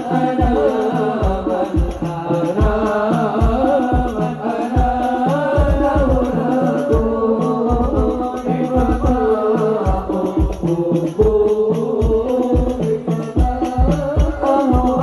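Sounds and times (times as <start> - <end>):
male vocal group singing: 0.0 - 15.0.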